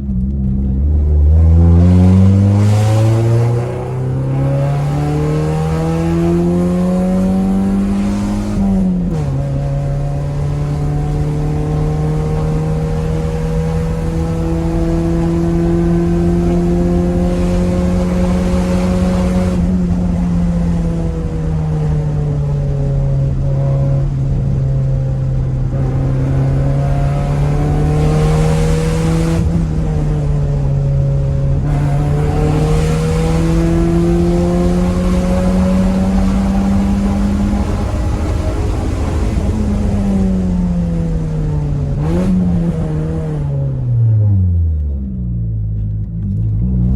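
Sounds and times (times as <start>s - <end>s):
car engine accelerating: 0.0s - 46.9s
low road rumble: 0.0s - 46.9s.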